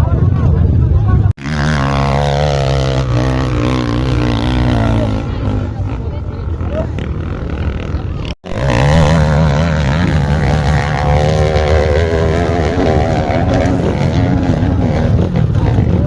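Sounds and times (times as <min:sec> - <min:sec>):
off-road motorcycle engines: 0:00.0 - 0:16.0.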